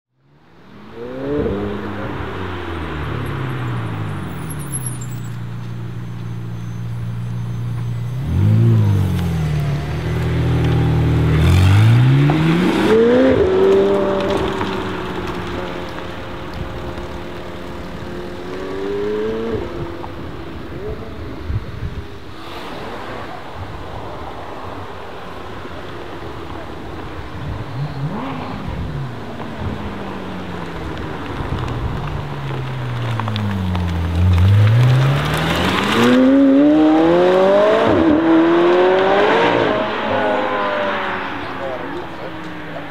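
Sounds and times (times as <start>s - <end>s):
car engine revving: 0.7s - 21.5s, 25.2s - 42.9s.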